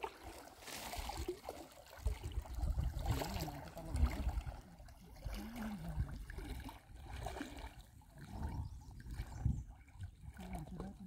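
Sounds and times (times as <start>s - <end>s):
water sloshing around legs: 0.0s - 11.0s.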